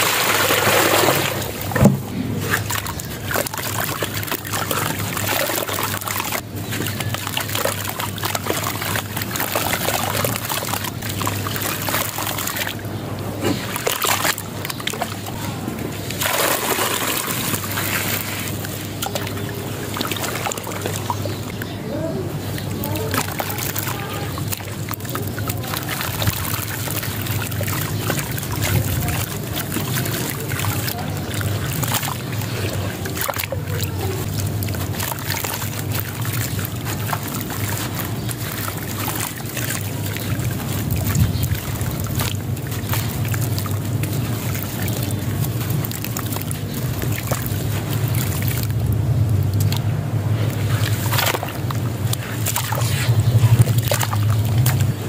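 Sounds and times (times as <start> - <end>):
water sloshing: 0.0 - 55.0.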